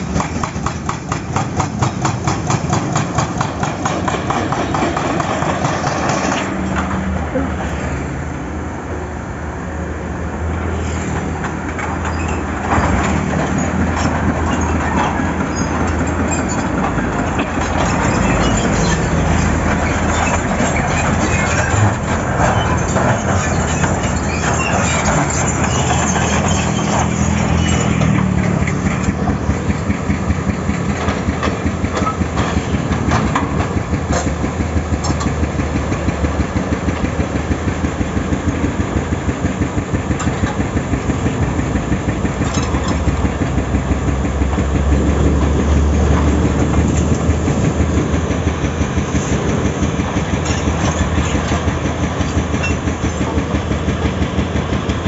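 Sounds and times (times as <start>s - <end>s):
hydraulic breaker hammer pounding: 0.0s - 6.5s, 12.6s - 55.0s
excavator diesel engine running: 0.0s - 55.0s.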